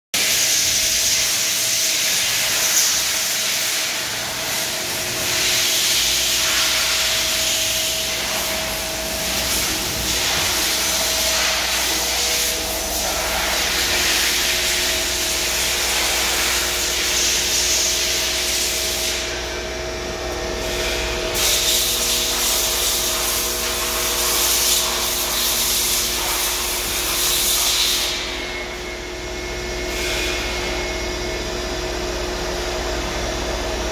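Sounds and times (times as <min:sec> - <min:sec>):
lathe machine whine: 0:00.2 - 0:33.9.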